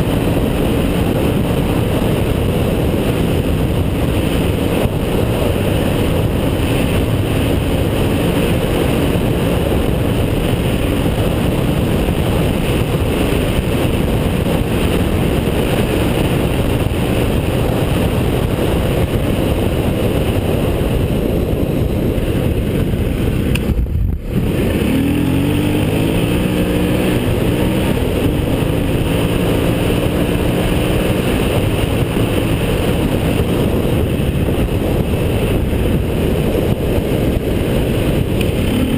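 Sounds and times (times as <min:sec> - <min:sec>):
motorcycle engine running hard: 0:00.0 - 0:38.9
wind rush on microphone: 0:00.0 - 0:38.9.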